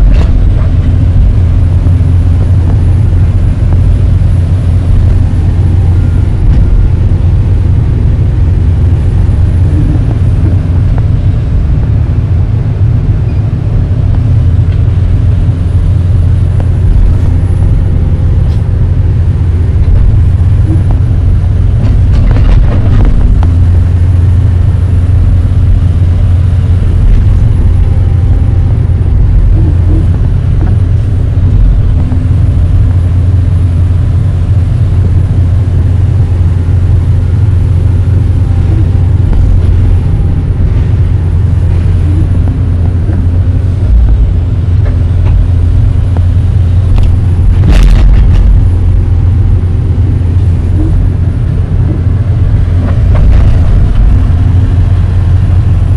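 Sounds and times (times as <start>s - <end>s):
excavator diesel engine drone: 0.0s - 55.9s.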